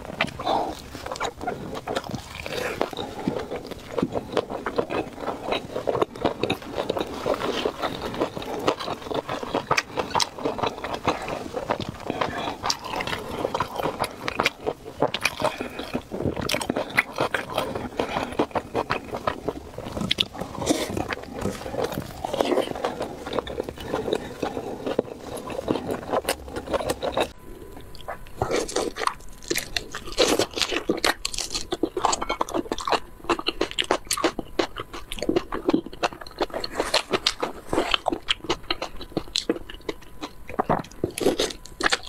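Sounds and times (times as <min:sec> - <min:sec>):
person chewing snack: 0:00.0 - 0:42.0.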